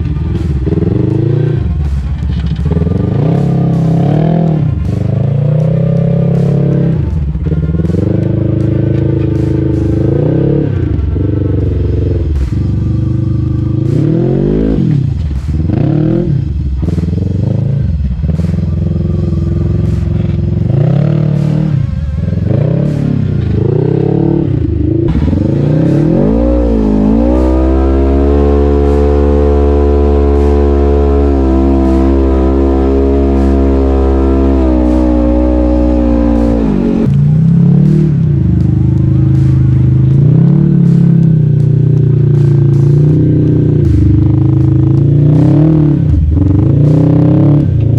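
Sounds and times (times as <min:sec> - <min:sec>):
engine revving: 0:00.0 - 0:47.9.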